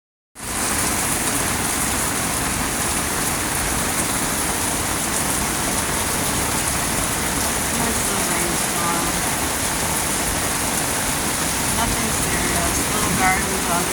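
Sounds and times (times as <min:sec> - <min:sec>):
steady rain falling: 0:00.4 - 0:13.9.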